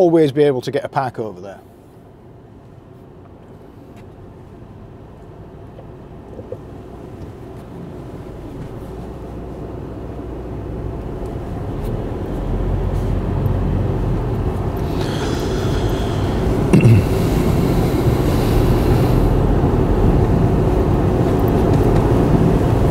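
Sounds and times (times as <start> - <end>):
car engine and tyre rumble: 0.0 - 22.9.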